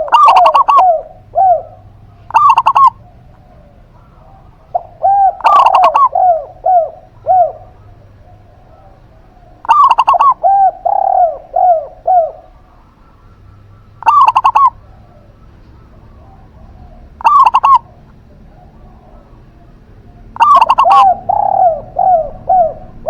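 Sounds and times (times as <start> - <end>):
harsh loud bird call: 0.0 - 18.1, 20.0 - 23.0
doves cooing: 0.0 - 23.0.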